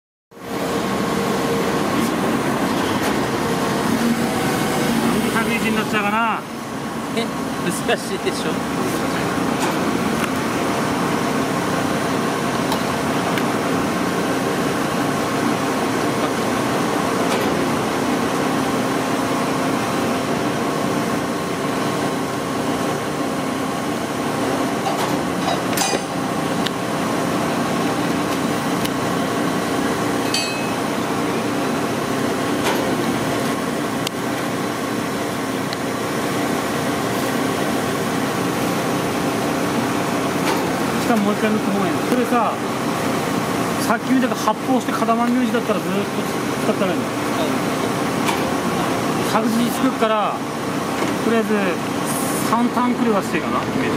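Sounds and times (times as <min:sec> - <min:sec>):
machine droning: 0:00.4 - 0:44.9.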